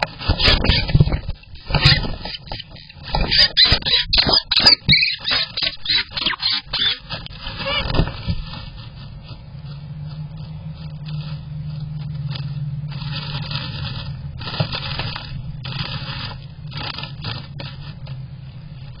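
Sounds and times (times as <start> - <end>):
bird scratching in nest lining: 0.0 - 19.0
low hum: 0.0 - 19.0.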